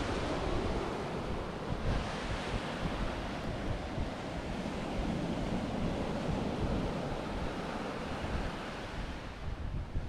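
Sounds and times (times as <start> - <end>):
surf washing on beach: 0.0 - 10.0
wind buffeting microphone: 0.0 - 10.0.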